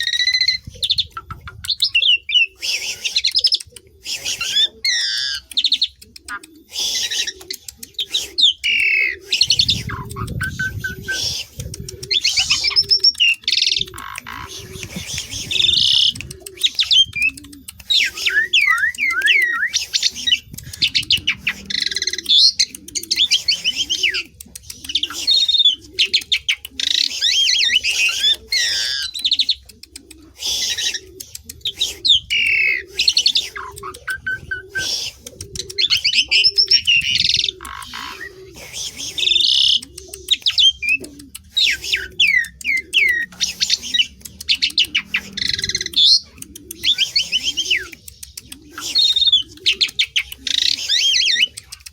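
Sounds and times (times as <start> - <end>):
starling whistles and chatter: 0.0 - 51.9.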